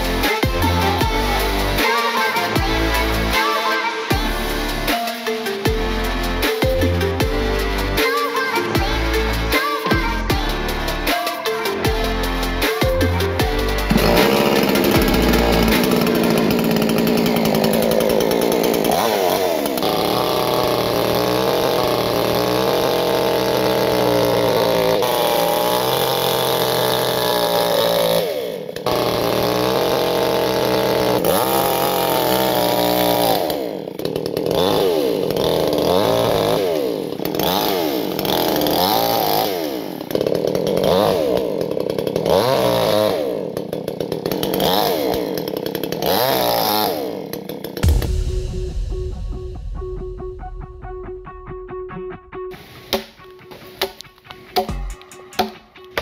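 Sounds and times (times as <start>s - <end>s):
chainsaw cutting through fish: 0.0s - 48.1s
chainsaw engine revving: 0.0s - 48.2s.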